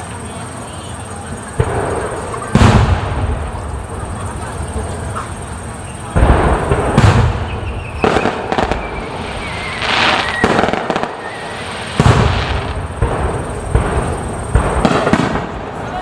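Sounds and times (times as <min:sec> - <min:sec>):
fireworks booming: 0:00.0 - 0:16.0
fireworks crackling: 0:00.0 - 0:16.0.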